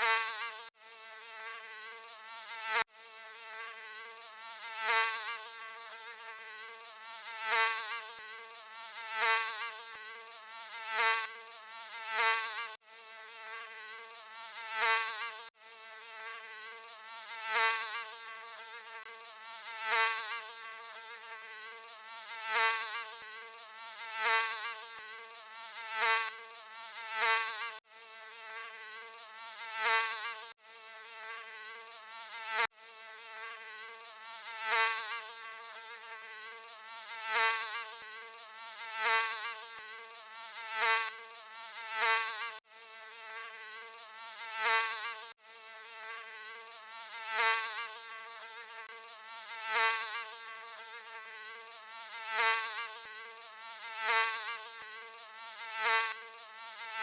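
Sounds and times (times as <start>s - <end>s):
mosquito wingbeat buzz: 0.0s - 57.0s.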